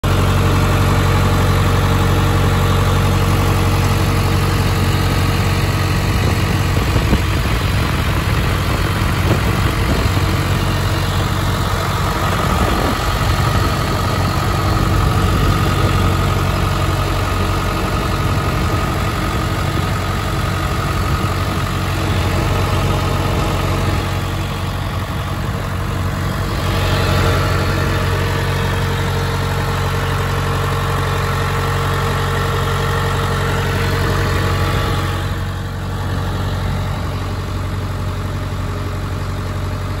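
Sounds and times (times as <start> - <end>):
bulldozer diesel engine idling: 0.0 - 40.0.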